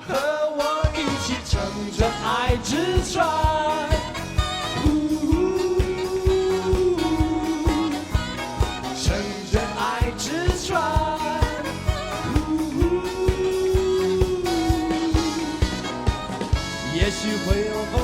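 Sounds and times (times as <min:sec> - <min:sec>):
live pop band music: 0:00.0 - 0:18.0
steady drum beat: 0:00.1 - 0:18.0.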